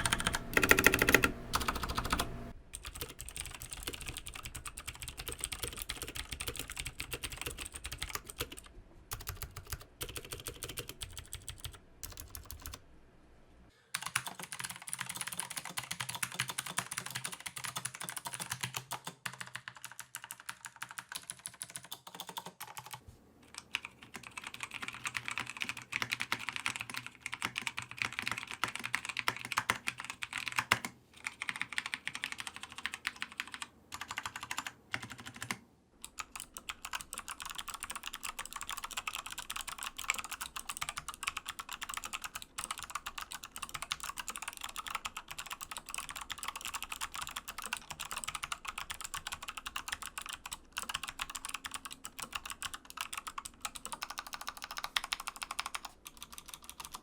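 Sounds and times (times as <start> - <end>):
fast typing on mechanical keyboard: 0.0 - 12.8, 14.0 - 57.0.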